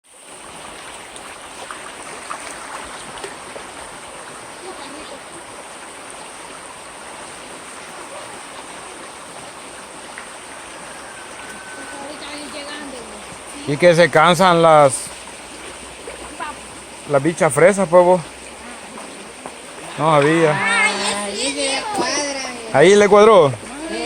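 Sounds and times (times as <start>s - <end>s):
river water rushing over rocks: 0.1s - 24.0s.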